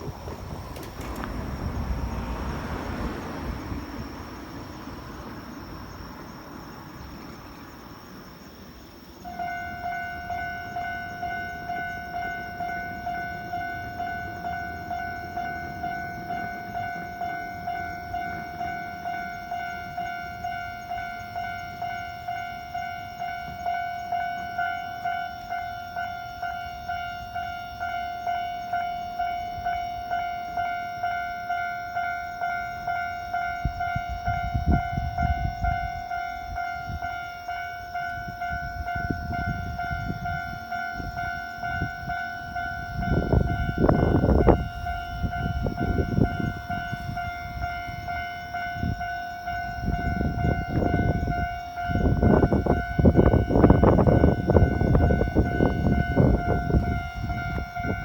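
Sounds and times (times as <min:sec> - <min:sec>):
passing train: 0:00.0 - 0:58.0
level crossing warning bell: 0:08.0 - 0:58.0.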